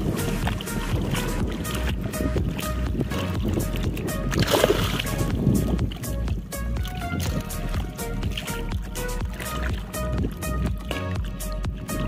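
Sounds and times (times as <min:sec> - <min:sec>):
fast beat music with heavy bass: 0:00.0 - 0:10.6.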